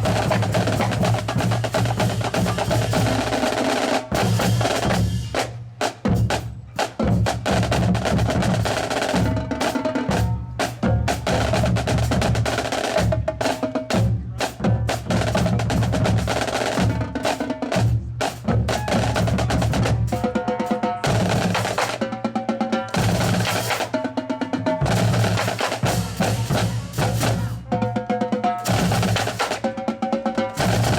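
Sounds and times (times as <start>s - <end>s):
marching band playing: 0.0s - 30.9s
snare and bass drums beating: 0.0s - 30.9s.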